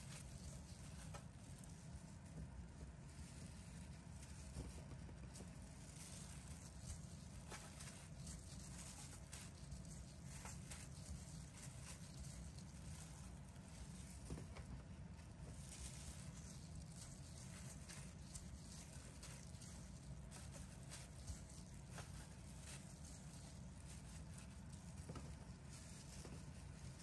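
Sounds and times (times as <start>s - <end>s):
soft taps and rustling: 0.0s - 27.0s.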